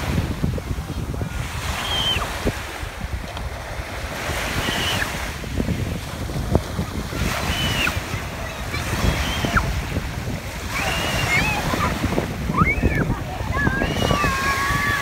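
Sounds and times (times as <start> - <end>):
waves washing over pebbles: 0.0 - 15.0
wind rumbling on microphone: 0.0 - 15.0.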